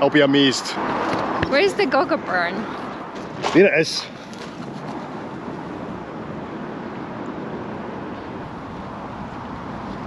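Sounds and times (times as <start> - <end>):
steady rushing ambient noise: 0.0 - 10.0.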